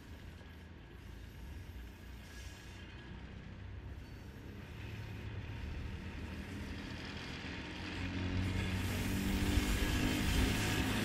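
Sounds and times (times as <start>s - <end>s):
electric locomotive approaching: 0.0s - 11.0s.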